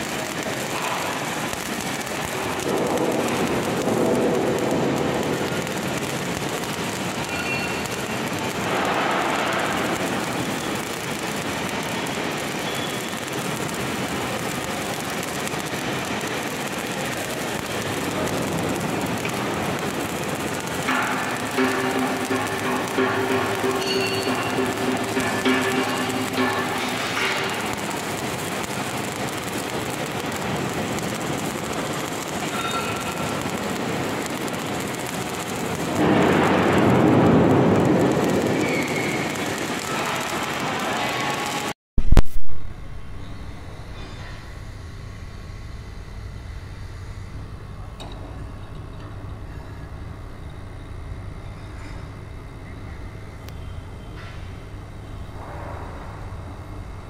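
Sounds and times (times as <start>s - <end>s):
arc welding crackling hiss: 0.0s - 57.0s.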